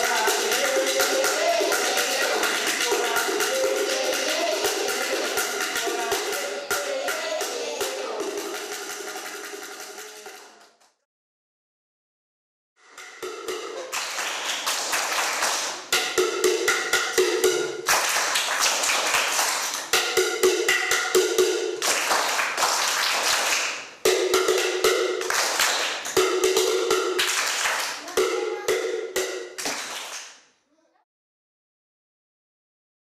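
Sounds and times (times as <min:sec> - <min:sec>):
percussion ensemble drumming: 0:00.0 - 0:10.6, 0:12.8 - 0:30.2.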